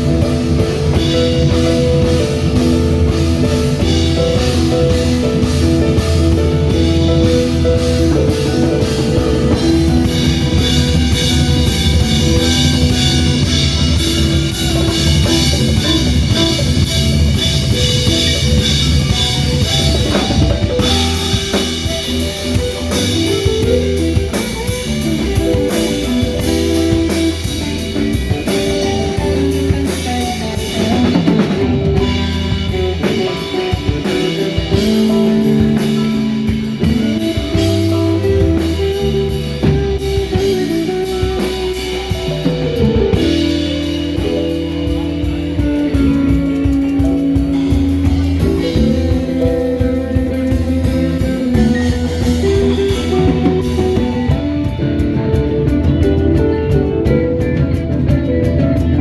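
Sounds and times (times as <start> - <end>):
bass notes: 0.0 - 59.0
drum kit beat: 0.0 - 59.0
electric guitar lines: 0.0 - 59.0.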